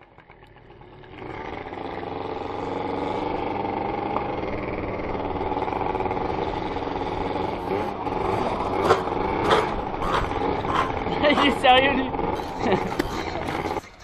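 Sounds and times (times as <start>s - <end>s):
scooter engine accelerating: 0.0s - 14.0s.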